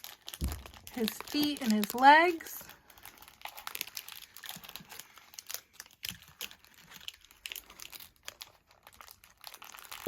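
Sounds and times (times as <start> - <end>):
wrappers crinkling: 0.0 - 10.0.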